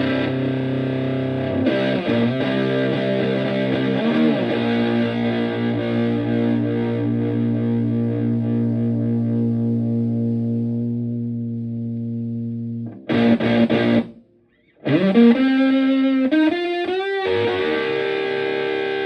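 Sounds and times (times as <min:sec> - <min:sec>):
fuzzy electric guitar notes: 0:00.0 - 0:19.0.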